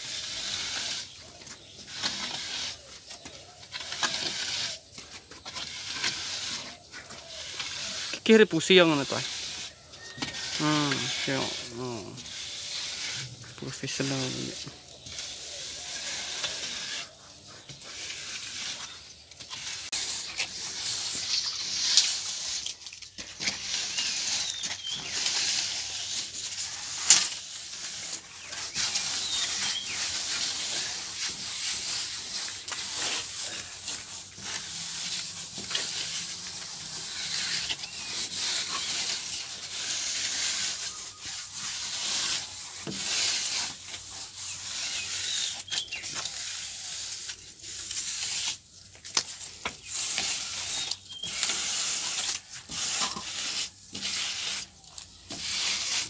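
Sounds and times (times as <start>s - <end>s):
plastering tool scraping cement: 0.0s - 56.0s.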